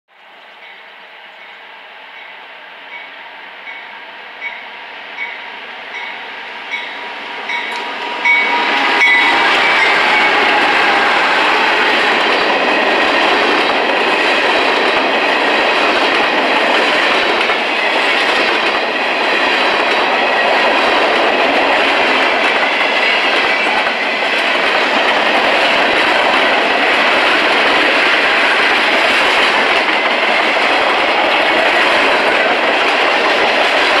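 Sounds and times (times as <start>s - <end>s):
steel wheels on rails: 2.2s - 34.0s.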